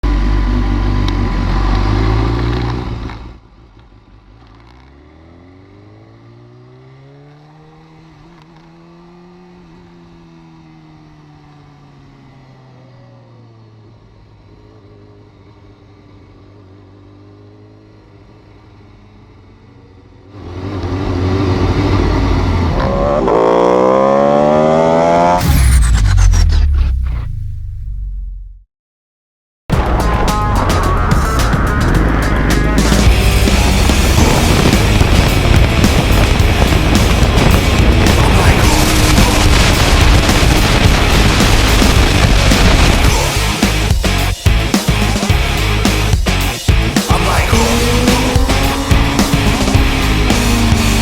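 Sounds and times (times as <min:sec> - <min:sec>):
motorcycle engine revving: 0:00.0 - 0:03.4, 0:04.0 - 0:26.4, 0:29.7 - 0:51.0.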